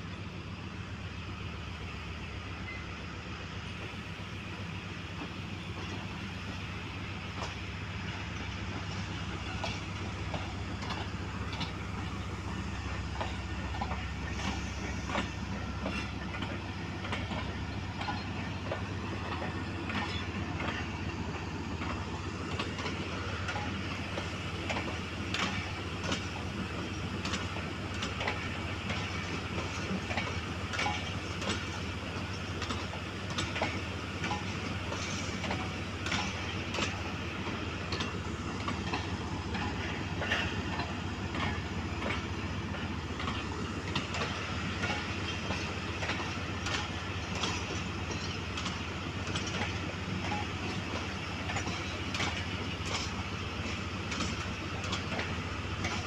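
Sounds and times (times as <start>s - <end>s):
low diesel locomotive hum: 0.0s - 56.0s
train wheels clacking over rail joints: 2.6s - 56.0s.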